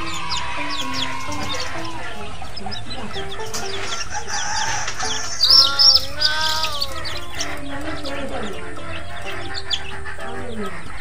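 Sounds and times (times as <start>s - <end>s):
background music: 0.0s - 11.0s
chicks peeping: 0.0s - 11.0s
loud bird call: 0.0s - 11.0s.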